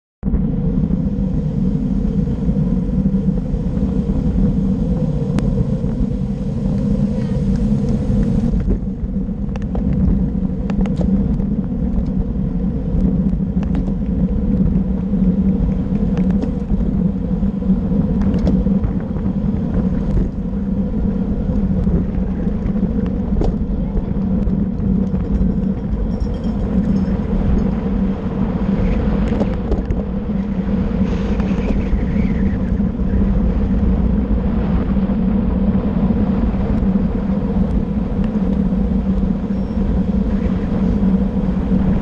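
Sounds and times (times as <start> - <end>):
road and tyre rumble: 0.2 - 42.0
wind buffeting microphone: 0.2 - 42.0.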